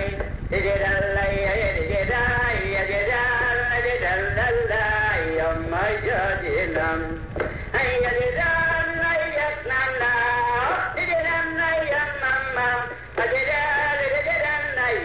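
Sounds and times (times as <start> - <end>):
sung melody with accompaniment: 0.0 - 15.0.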